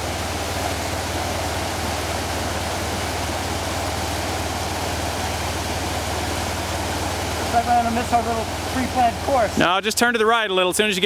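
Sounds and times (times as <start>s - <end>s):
motorcycle engine idling: 0.0s - 9.7s
river rushing: 0.0s - 11.0s.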